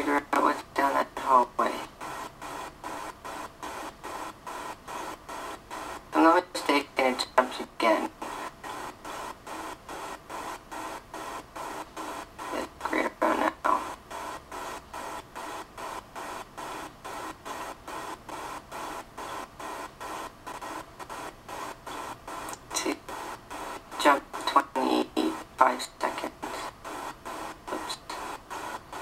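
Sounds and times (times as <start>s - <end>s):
pulsing hiss: 0.0s - 29.0s.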